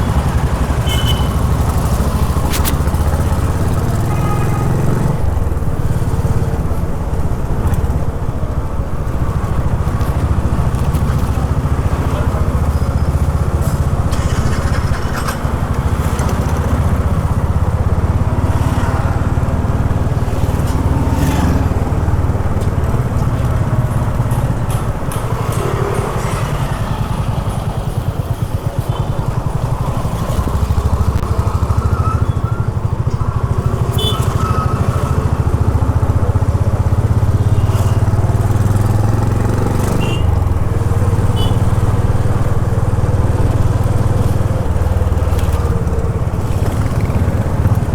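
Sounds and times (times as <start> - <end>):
city traffic: 0.0 - 47.9
motorcycle engine running: 0.0 - 47.9.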